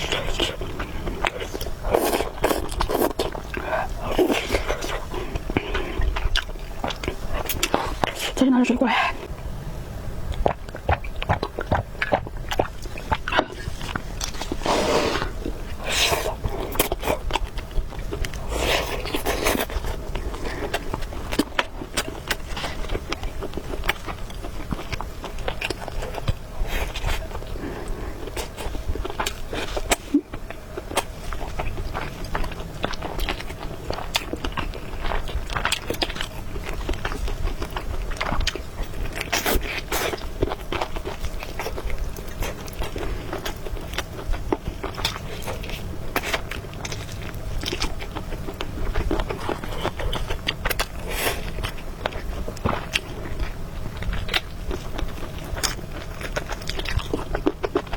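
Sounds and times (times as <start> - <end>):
person chewing and biting food: 0.0 - 8.3, 10.3 - 57.9
low steady hum: 0.0 - 57.9.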